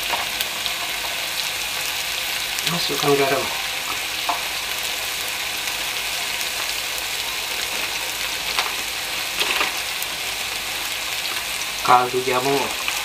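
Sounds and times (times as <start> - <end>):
spice paste sizzling in a wok: 0.0 - 13.0.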